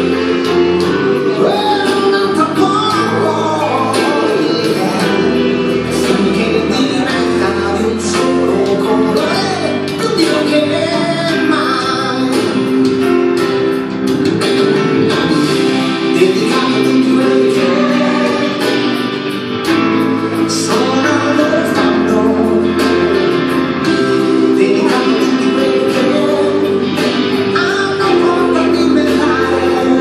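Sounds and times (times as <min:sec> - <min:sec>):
song with singing and guitar: 0:00.0 - 0:30.0.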